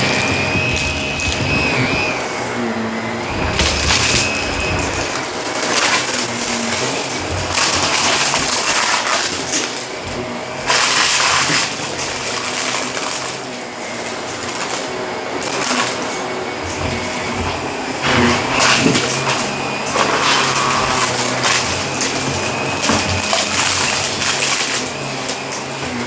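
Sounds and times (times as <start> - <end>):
debris crunching into vacuum: 0.0 - 26.0
vacuum cleaner motor whine: 0.0 - 26.0.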